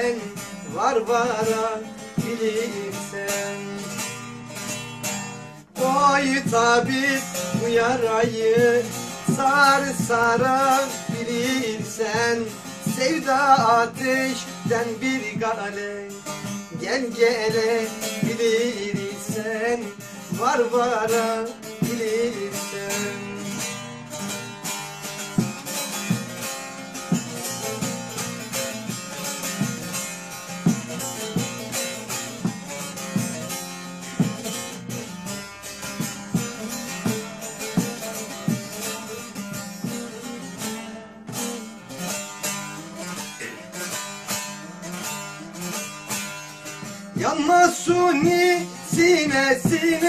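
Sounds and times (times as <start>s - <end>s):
plucked string instruments: 0.0s - 50.0s.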